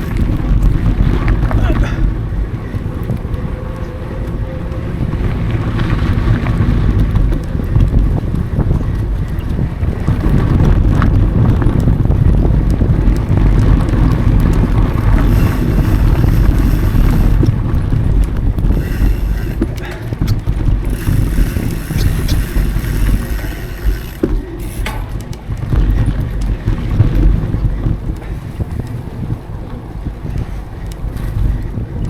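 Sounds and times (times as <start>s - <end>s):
bike clicks and rattles: 0.0s - 32.0s
bike tyres on dirt trail: 0.0s - 32.0s
wind rumbling on microphone: 0.0s - 32.0s.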